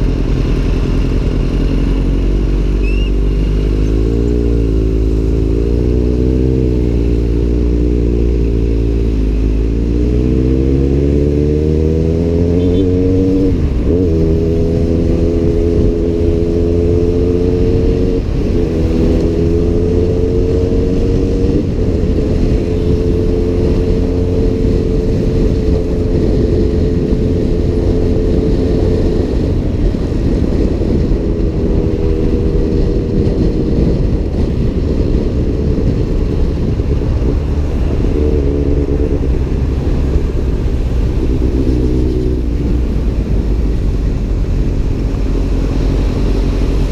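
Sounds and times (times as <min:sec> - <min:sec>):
motorcycle engine revving: 0:00.0 - 0:46.9
wind rushing: 0:02.0 - 0:46.9.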